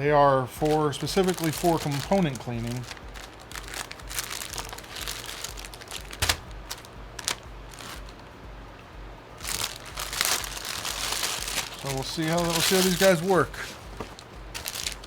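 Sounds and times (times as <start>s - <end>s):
plastic packaging crinkling: 0.6s - 8.2s, 9.4s - 15.0s.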